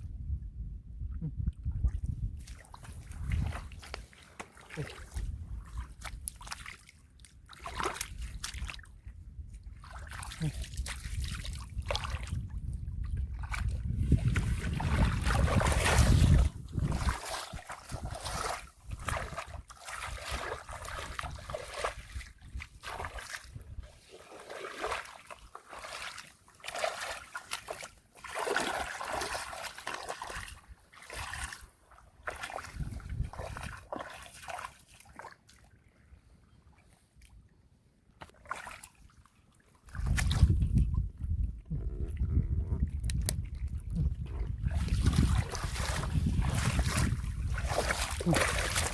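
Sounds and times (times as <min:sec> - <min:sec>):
splashing in muddy water: 0:01.2 - 0:37.5, 0:38.2 - 0:48.9.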